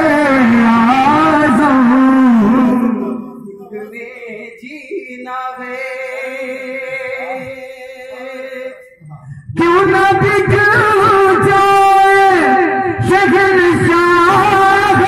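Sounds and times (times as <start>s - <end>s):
man singing through loudspeakers: 0.0s - 15.0s.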